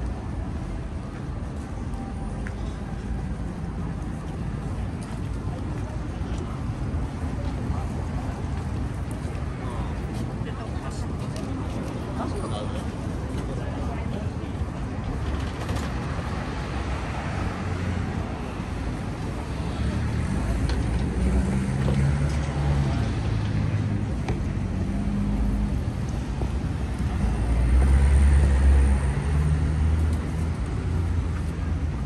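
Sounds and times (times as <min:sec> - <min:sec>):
vehicle engines running: 0:00.0 - 0:32.0.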